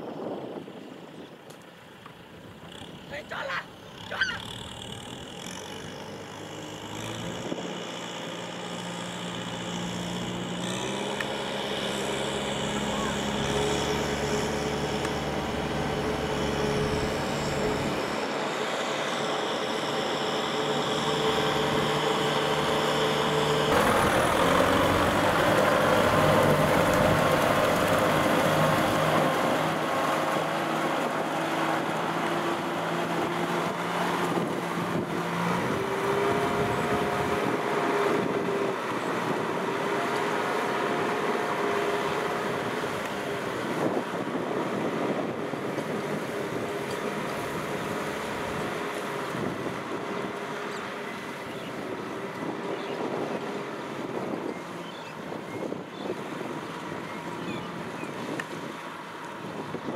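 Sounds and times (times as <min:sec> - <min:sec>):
tractor diesel engine running: 0:02.1 - 0:54.8.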